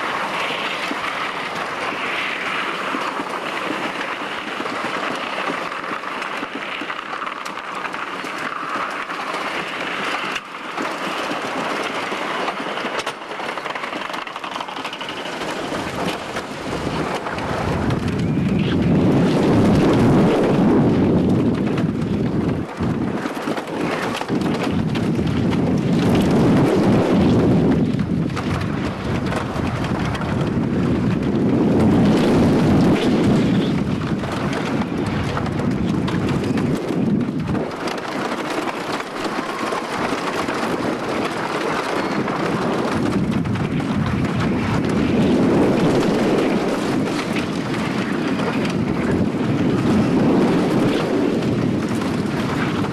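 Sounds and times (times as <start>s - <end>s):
roller coaster train rumbling: 0.0s - 52.9s.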